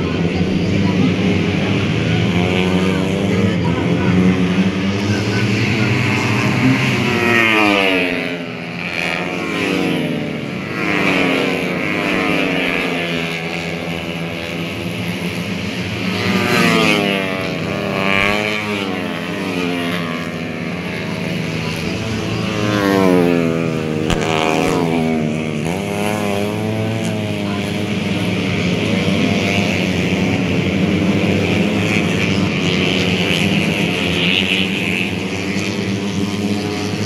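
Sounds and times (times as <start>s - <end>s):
racing motorcycles revving past: 0.0s - 37.0s.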